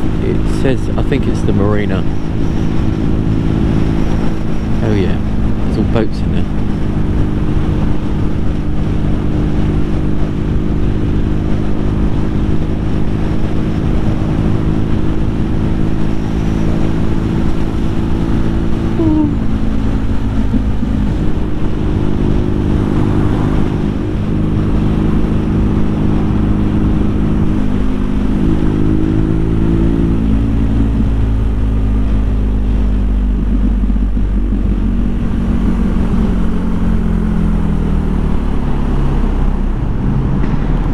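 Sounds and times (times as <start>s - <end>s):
motorcycle engine cruising: 0.0s - 40.9s
road noise: 0.0s - 40.9s
wind noise: 0.0s - 40.9s.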